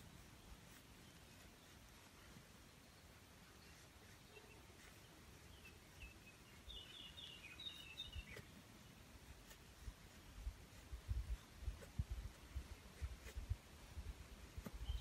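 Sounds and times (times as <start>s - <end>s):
faint bird chirps: 0.0s - 13.5s, 14.6s - 15.0s
woodland background: 0.0s - 15.0s.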